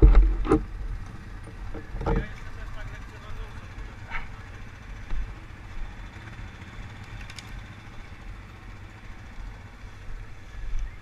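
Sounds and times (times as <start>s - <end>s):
atv engine rumbling: 0.0s - 11.0s.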